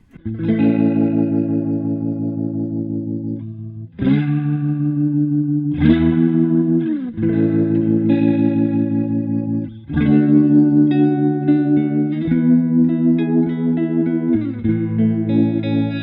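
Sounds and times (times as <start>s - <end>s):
electric guitar chords with warble: 0.0s - 16.0s.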